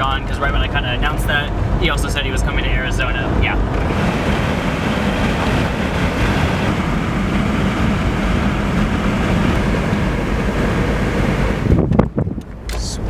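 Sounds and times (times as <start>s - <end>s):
low engine drone: 0.0s - 13.0s
road and wind noise: 0.0s - 13.0s.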